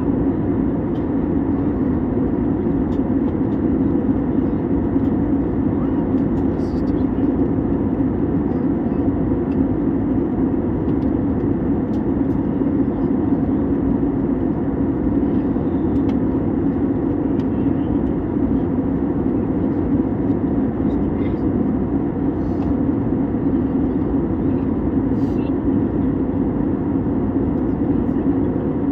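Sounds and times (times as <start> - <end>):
airliner engines droning: 0.0 - 28.9.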